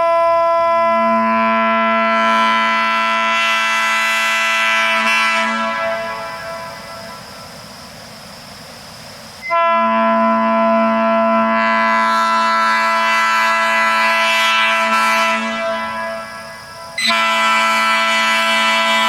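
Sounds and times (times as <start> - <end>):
train horn blast: 0.0 - 7.3, 9.4 - 19.0.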